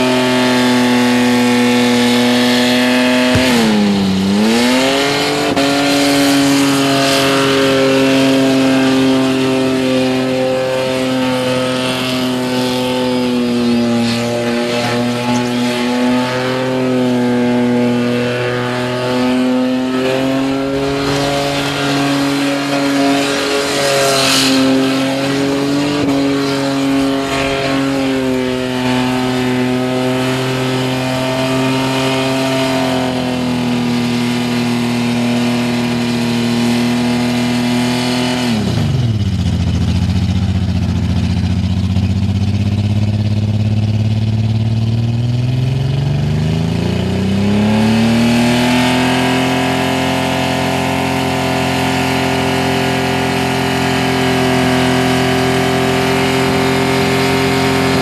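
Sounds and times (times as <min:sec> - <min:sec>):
car engine revving high: 0:00.0 - 0:58.0.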